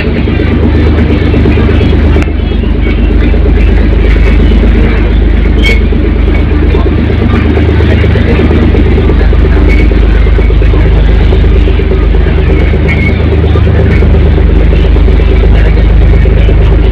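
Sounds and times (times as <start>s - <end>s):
ferry engines droning: 0.0s - 16.9s.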